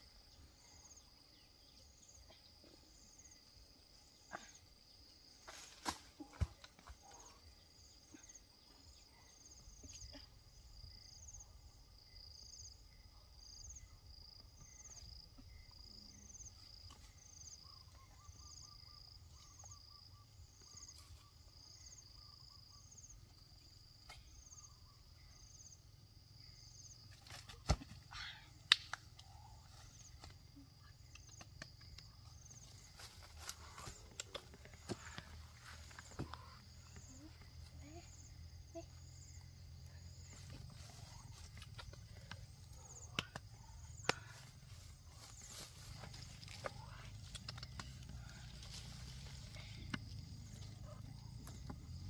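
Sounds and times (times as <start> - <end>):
insects chirping: 0.0 - 52.0.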